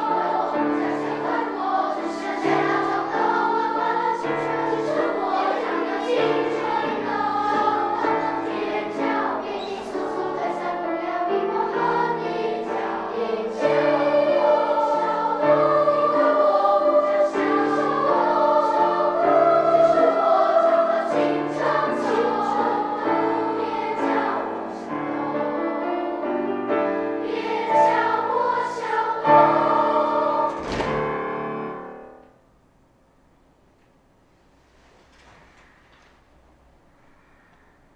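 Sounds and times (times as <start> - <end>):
children's choir singing: 0.0 - 32.2
piano accompaniment: 0.0 - 32.4.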